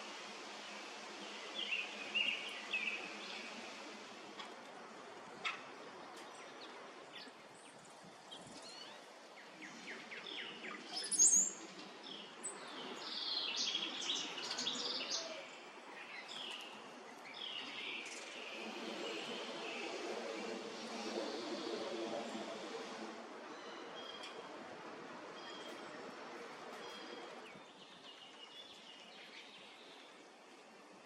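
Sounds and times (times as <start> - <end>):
songbirds chirping: 0.0 - 20.6, 23.5 - 31.0.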